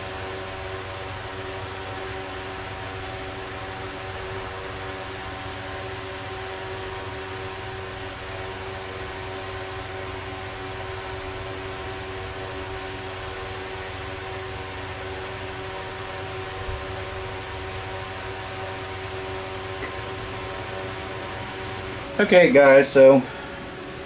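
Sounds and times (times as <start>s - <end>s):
machine humming with hiss: 0.0s - 24.0s.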